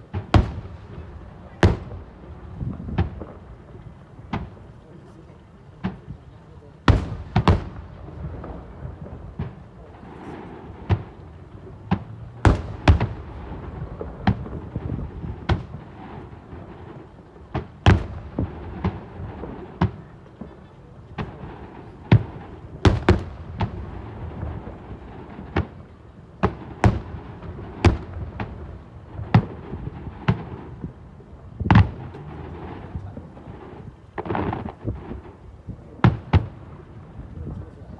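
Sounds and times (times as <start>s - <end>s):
fireworks bursting with sharp bangs: 0.0s - 37.9s.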